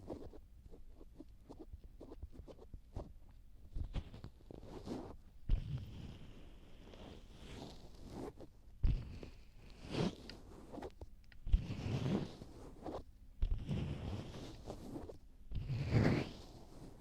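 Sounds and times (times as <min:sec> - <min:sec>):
hands rubbing a microphone: 0:00.0 - 0:17.0.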